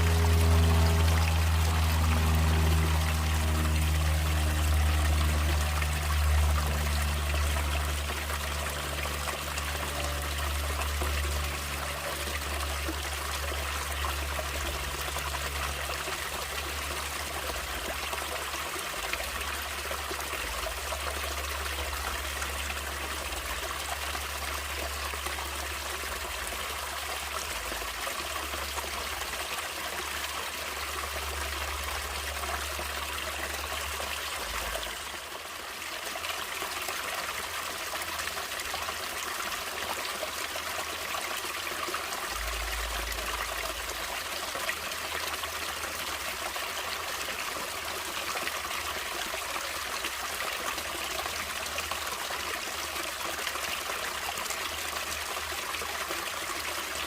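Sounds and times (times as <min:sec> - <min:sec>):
water running and trickling: 0:00.0 - 0:57.0.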